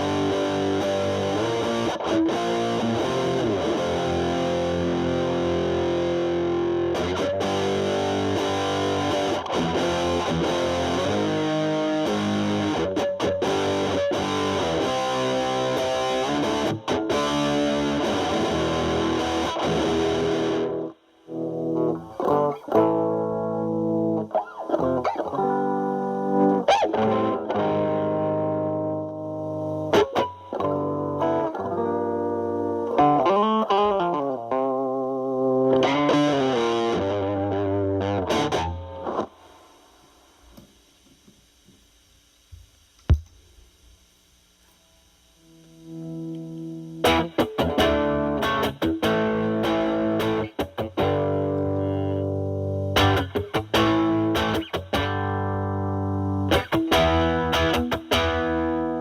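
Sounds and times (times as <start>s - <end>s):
distorted electric guitar chords: 0.0s - 42.5s, 44.8s - 59.0s.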